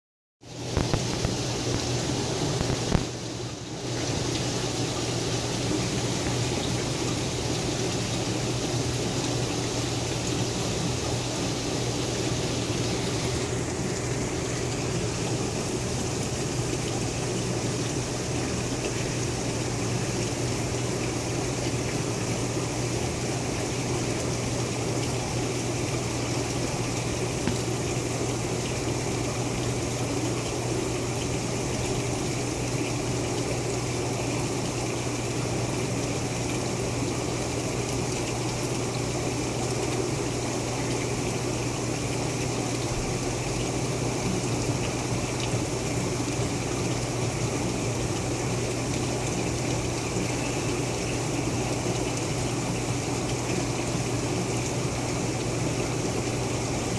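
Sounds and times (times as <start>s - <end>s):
water pump humming: 0.4s - 56.9s
water running in a tub: 0.4s - 56.9s.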